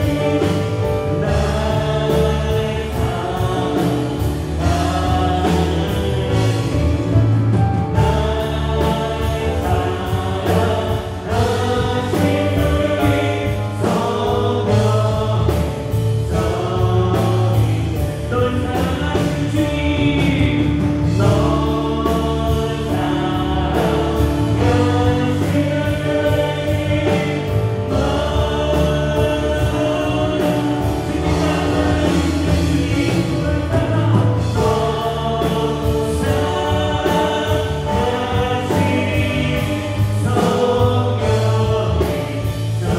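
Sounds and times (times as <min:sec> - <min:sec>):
group of voices singing: 0:00.0 - 0:42.9
worship band playing: 0:00.0 - 0:42.9.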